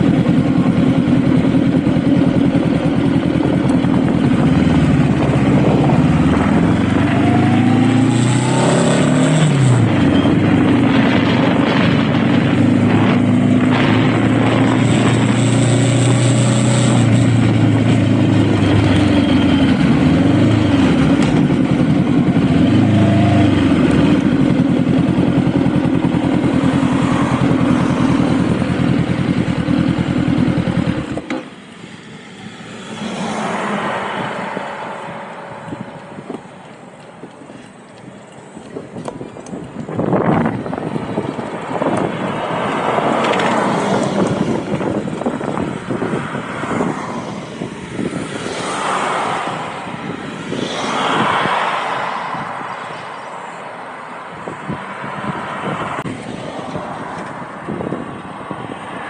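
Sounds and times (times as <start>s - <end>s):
motorcycle engine: 0.0s - 59.0s
wind noise: 1.6s - 31.3s, 32.8s - 59.0s.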